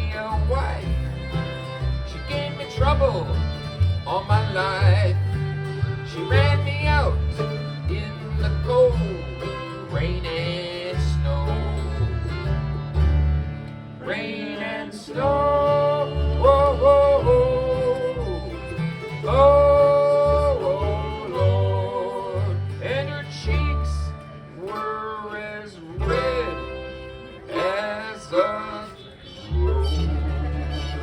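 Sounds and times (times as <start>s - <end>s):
steady bass line: 0.0s - 14.0s, 15.1s - 24.6s, 29.5s - 31.0s
strummed guitar: 0.0s - 31.0s.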